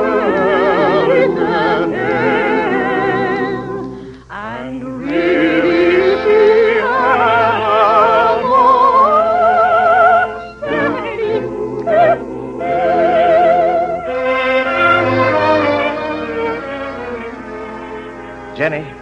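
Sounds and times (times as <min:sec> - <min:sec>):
operatic singing with vibrato: 0:00.0 - 0:18.8.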